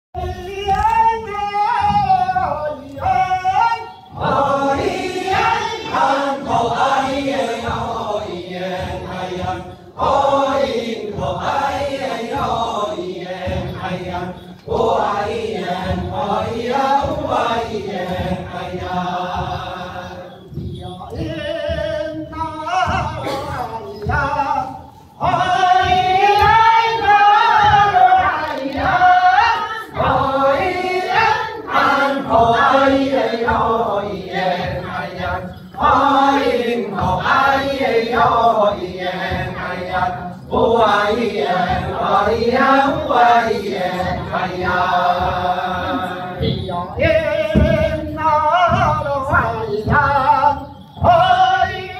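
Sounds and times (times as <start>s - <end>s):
mixed choir singing: 0.2s - 51.9s.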